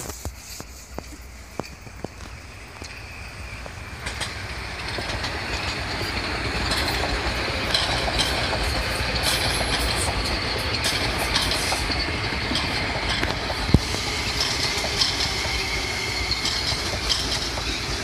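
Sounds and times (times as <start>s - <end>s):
train wheels on rails: 0.0s - 18.0s
wheels clicking over rail joints: 0.0s - 18.0s.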